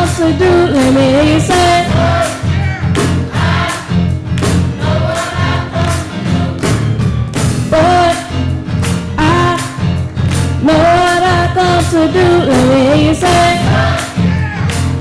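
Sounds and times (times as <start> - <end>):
youth choir singing gospel: 0.0 - 8.4, 10.6 - 15.0
drums beat: 0.0 - 15.0
heavy bass line: 0.0 - 15.0.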